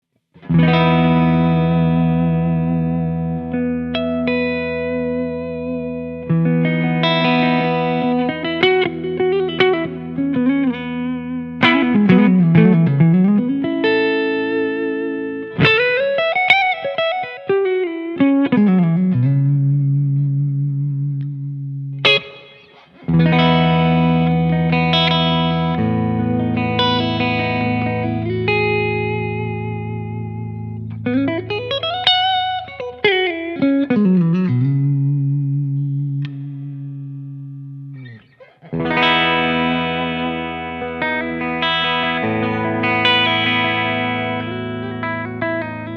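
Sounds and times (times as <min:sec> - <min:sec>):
electric guitar lead melody: 0:00.3 - 0:45.9.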